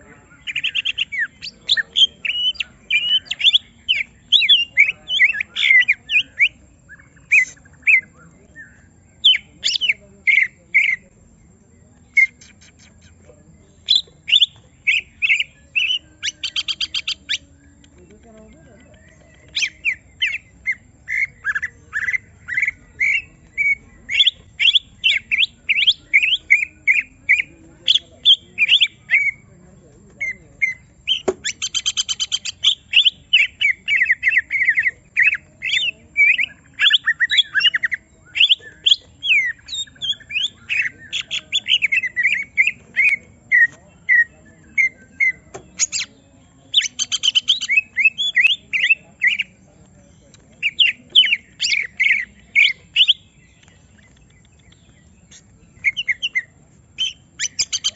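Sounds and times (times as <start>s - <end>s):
bird singing chirps and whistles: 0.4s - 11.1s, 13.8s - 17.8s, 18.7s - 29.4s, 30.2s - 57.9s.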